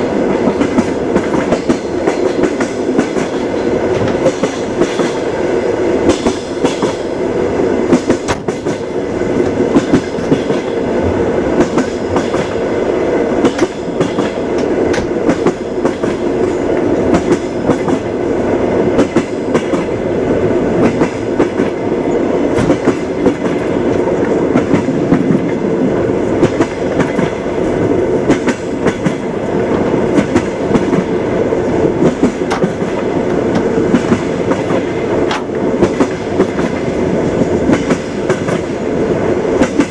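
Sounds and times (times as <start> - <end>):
train carriage rumble: 0.0 - 39.9
train wheels clicking over rail joints: 0.0 - 39.9.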